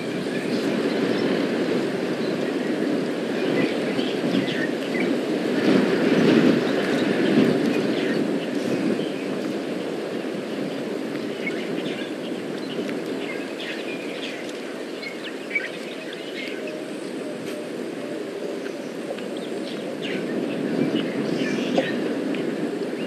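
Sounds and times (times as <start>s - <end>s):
birds chirping: 0.0s - 23.0s
steady rushing noise: 0.0s - 23.0s.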